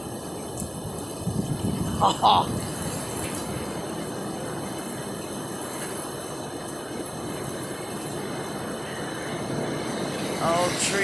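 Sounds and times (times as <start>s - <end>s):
heavy rain: 0.0s - 11.0s
strong winds: 0.0s - 11.0s.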